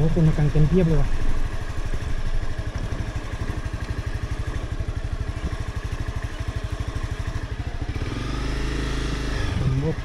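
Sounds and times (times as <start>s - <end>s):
vehicle engine running slowly: 0.0s - 10.0s.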